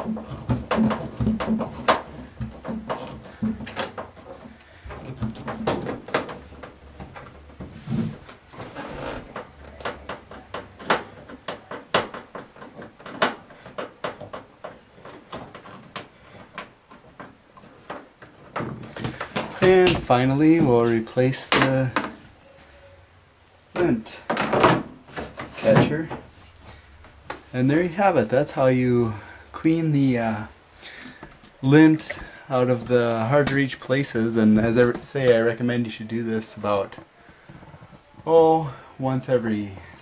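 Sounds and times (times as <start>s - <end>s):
handling and scraping: 0.0s - 23.0s, 23.7s - 38.6s.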